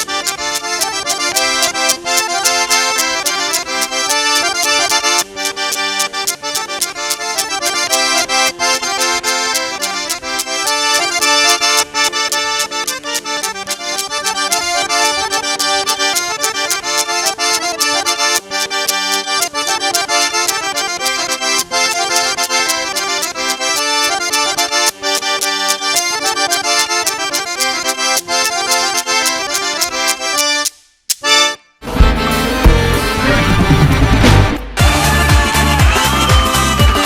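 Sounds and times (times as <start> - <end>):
accordion tune: 0.0 - 37.0.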